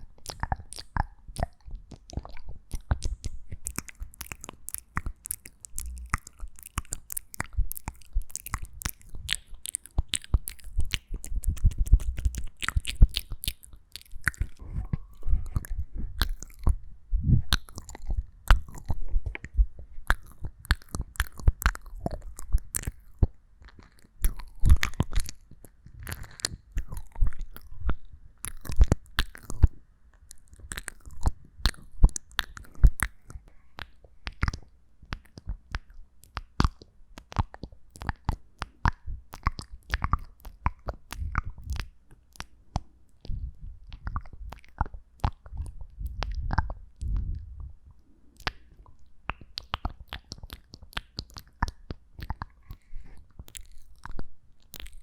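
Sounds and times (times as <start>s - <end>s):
wet mouth clicks and smacks: 0.0s - 55.0s.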